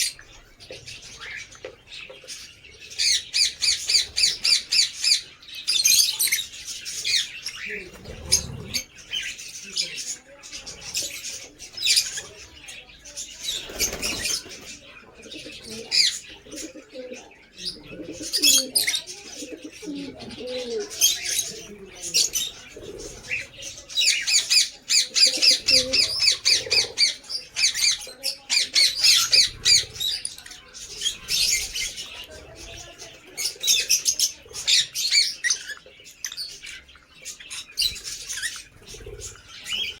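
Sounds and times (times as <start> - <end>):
birds warbling and cooing: 0.0 - 40.0
lovebirds chirping and squawking: 0.0 - 40.0.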